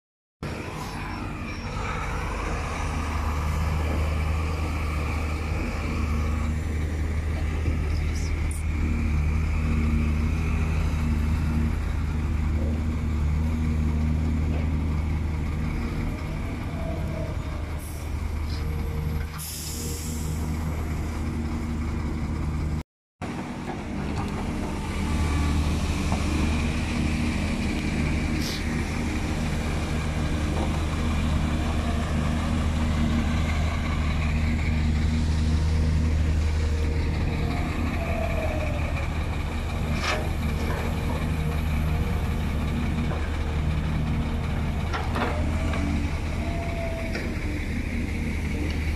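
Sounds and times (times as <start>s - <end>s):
heavy diesel engines running: 0.4s - 48.9s.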